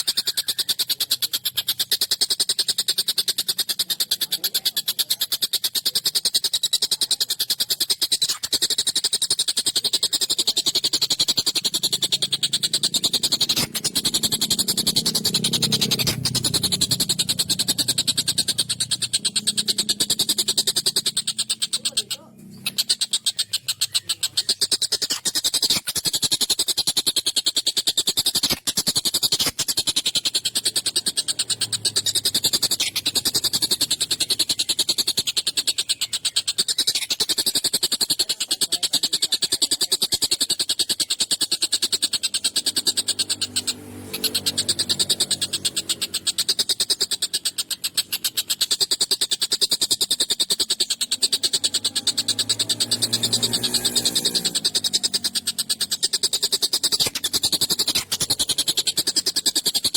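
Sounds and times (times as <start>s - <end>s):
kingfisher rattling chatter: 0.0s - 59.9s.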